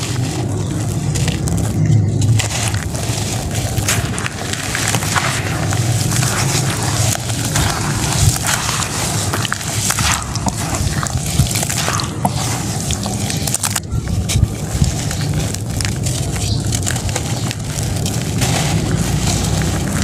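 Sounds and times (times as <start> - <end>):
gritty sand crunching: 0.0 - 20.0
low rumble: 0.0 - 20.0
wet squelching: 0.0 - 20.0.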